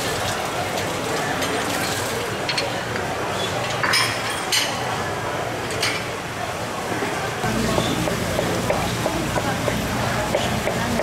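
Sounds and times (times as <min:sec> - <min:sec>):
faint murmured voices: 0:00.0 - 0:11.0.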